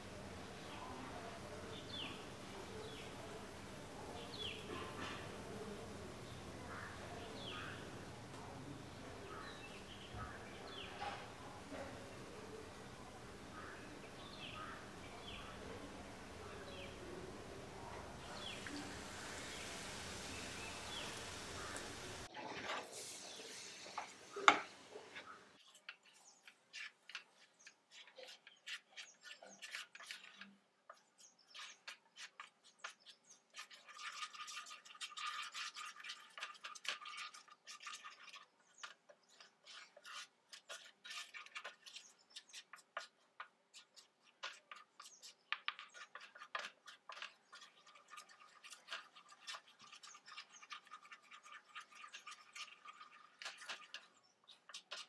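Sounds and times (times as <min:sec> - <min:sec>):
spatula scraping a frying pan: 0:09.2 - 0:55.0.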